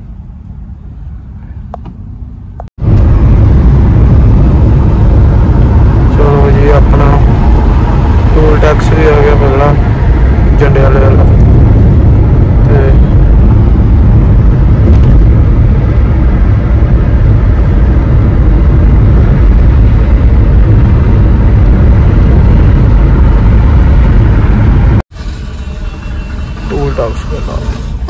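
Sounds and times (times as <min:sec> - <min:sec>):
road and wind rumble in car: 0:00.0 - 0:28.0.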